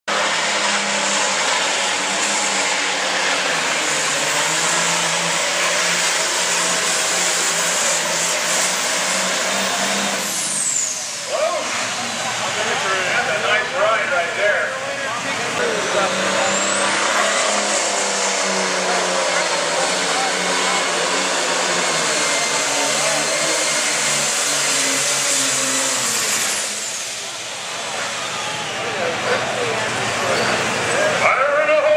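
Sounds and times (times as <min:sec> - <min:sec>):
tractor diesel engine under load: 0:00.0 - 0:31.9.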